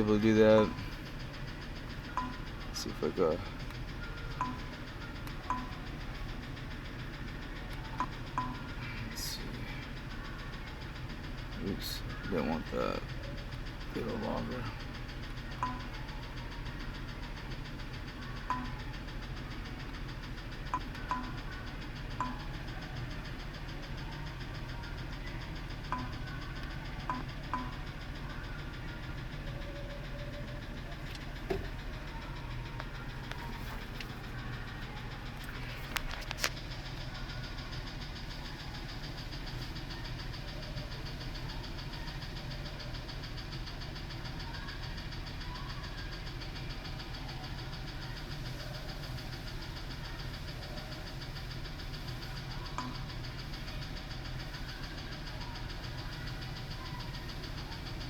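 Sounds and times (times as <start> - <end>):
truck engine idling with knock: 0.0 - 58.0.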